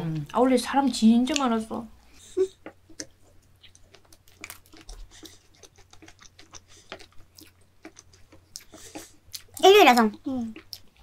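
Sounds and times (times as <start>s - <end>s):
faint chewing of bread: 1.3s - 11.0s.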